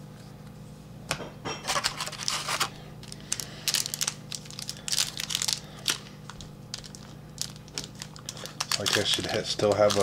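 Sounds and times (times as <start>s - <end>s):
trading cards rustling: 1.8s - 10.0s.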